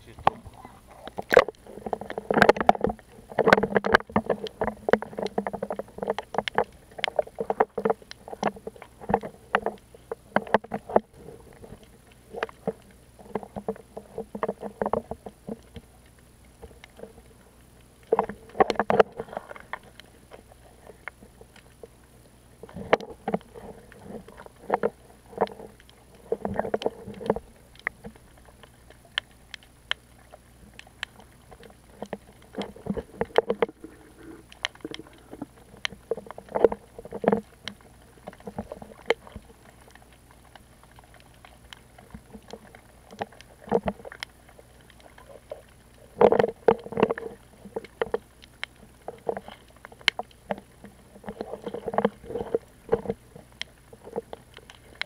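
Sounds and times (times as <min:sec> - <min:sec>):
muffled underwater swishes: 0:00.0 - 0:55.0.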